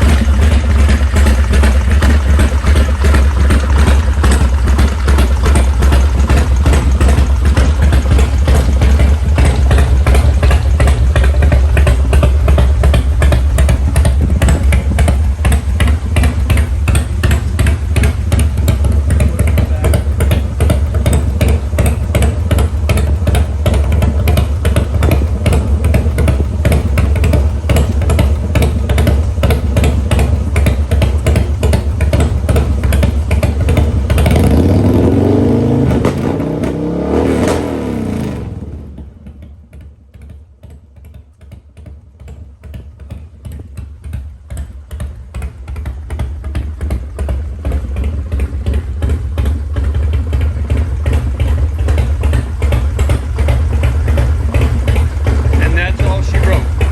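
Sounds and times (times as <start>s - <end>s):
motorcycle engine rumbling: 0.0s - 56.9s.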